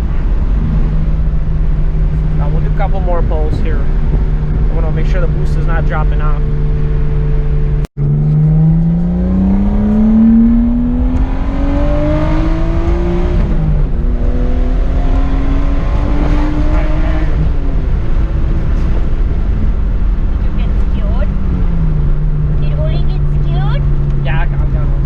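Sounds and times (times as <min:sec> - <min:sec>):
car engine accelerating hard: 0:00.0 - 0:25.0.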